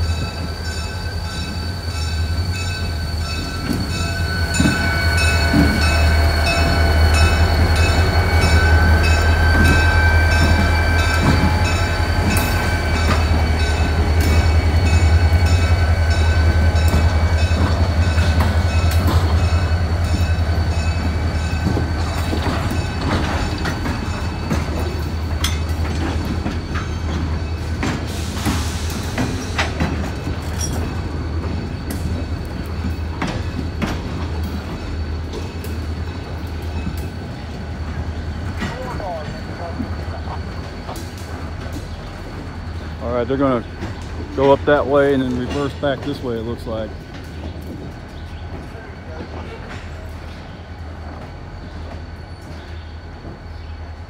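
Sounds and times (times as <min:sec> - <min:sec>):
high wheel squeal: 0:00.0 - 0:47.0
locomotive engine drone: 0:00.0 - 0:54.0
wheels clicking on rails: 0:02.6 - 0:53.6.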